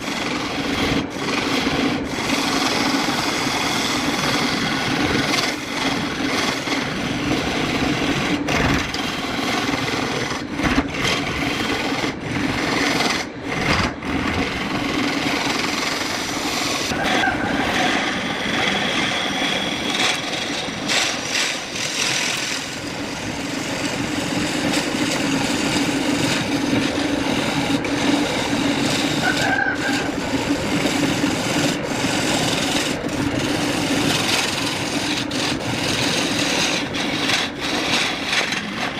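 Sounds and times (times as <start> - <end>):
tool rasping on spinning wood: 0.0 - 38.9
wood lathe humming: 0.0 - 38.9.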